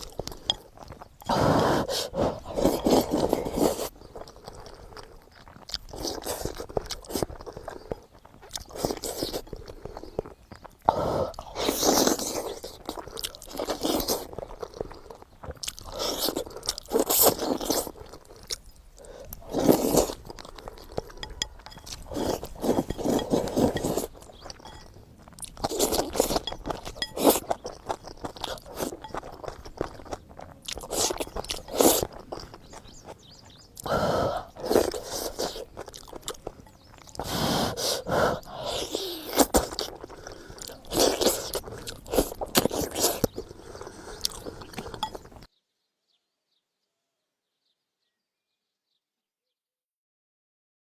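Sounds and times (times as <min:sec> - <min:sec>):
person chewing crunchy food: 0:00.0 - 0:45.5.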